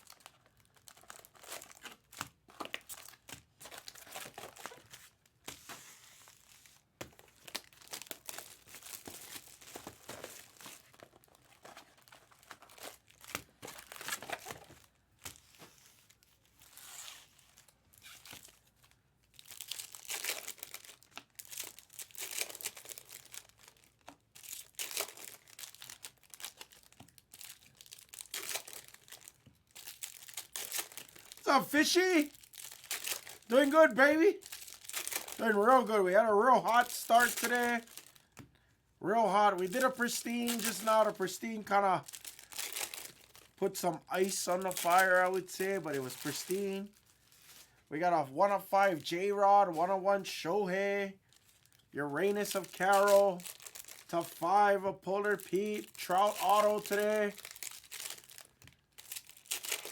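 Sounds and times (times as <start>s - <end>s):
card pack wrappers crinkling: 0.0s - 38.5s, 39.1s - 47.8s, 51.2s - 59.9s.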